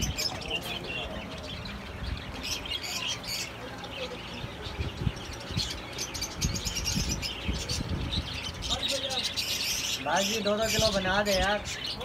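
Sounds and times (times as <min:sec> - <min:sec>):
finches and budgerigars chirping: 0:00.0 - 0:12.0.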